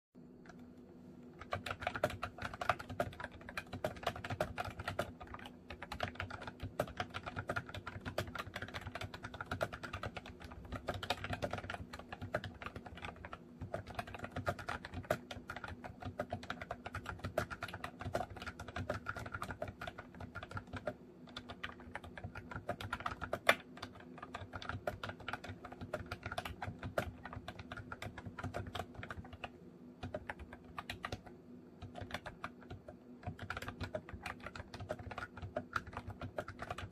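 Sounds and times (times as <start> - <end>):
keyboard typing clicks: 0.4 - 36.9.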